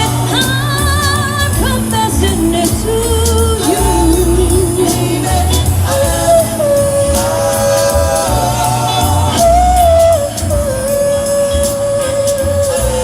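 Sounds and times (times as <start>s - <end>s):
woman singing a ballad: 0.0s - 11.6s
band accompaniment: 0.0s - 13.0s.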